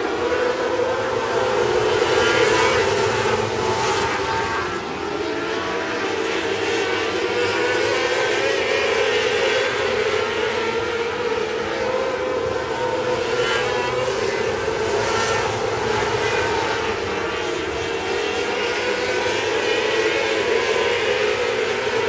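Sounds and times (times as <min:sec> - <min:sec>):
race car engine at high revs: 0:00.0 - 0:22.0.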